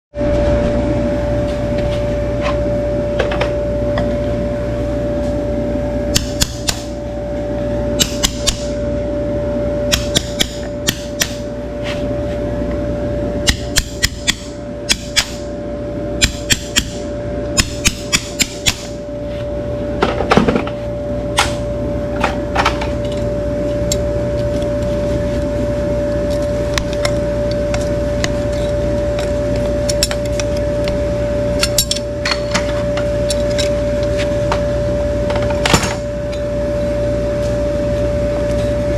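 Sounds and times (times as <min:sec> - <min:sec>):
electric hum: 0:00.1 - 0:38.9.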